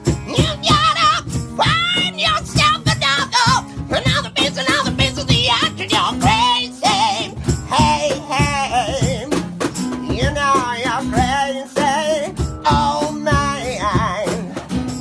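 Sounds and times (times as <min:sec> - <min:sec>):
man singing with vibrato: 0:00.0 - 0:14.8
strummed acoustic guitar: 0:00.0 - 0:15.0.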